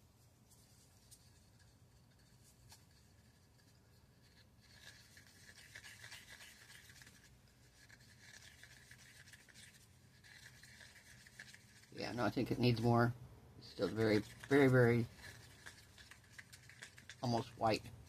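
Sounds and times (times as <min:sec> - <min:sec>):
stir stick scraping paper cup: 0:00.6 - 0:13.0, 0:13.7 - 0:18.0.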